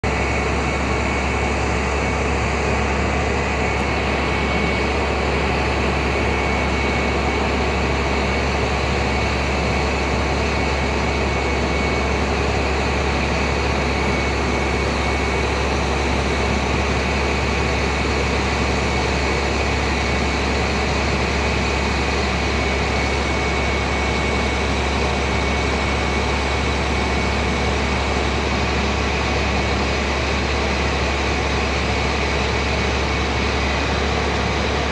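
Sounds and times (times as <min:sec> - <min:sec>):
diesel truck engine running: 0:00.0 - 0:34.9
steady high whine: 0:00.0 - 0:34.9.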